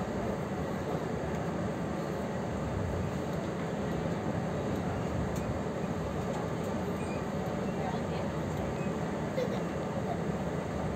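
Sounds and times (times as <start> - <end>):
passenger train rumbling: 0.0 - 10.9.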